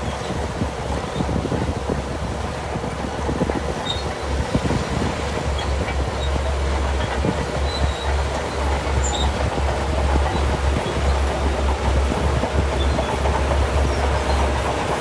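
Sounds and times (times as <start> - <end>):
bulldozer engine rumble: 0.0 - 15.0
steel tracks clattering: 0.1 - 15.0.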